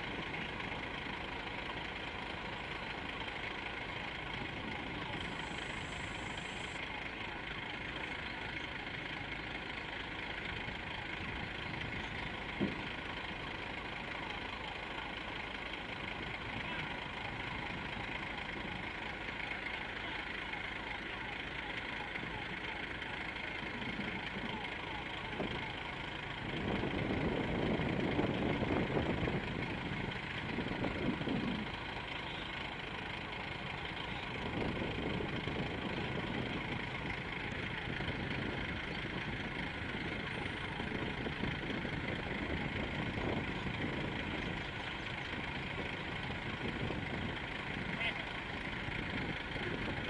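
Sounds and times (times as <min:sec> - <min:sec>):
heavy diesel engine running: 0:00.0 - 0:50.0.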